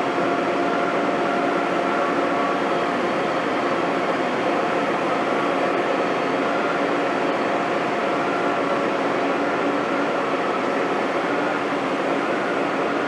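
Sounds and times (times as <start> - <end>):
diesel machinery droning: 0.0 - 13.0.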